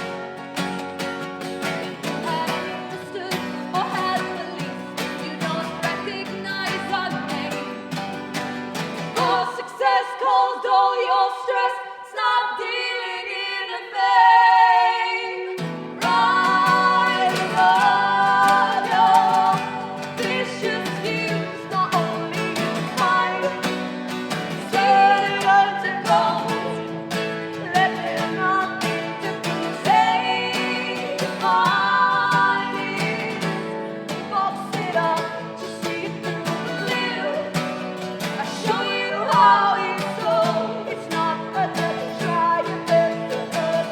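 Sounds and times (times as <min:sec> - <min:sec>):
strummed acoustic guitars: 0:00.0 - 0:10.4, 0:14.2 - 0:43.9
women singing in harmony: 0:01.8 - 0:43.9.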